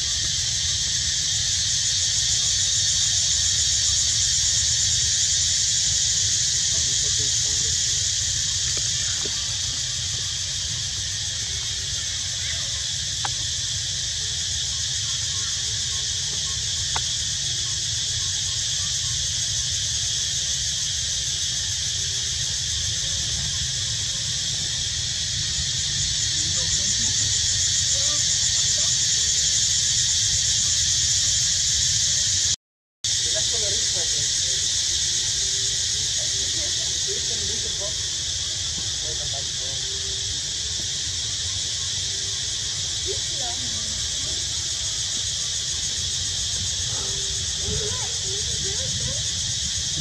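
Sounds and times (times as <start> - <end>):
cicadas droning: 0.0 - 50.0.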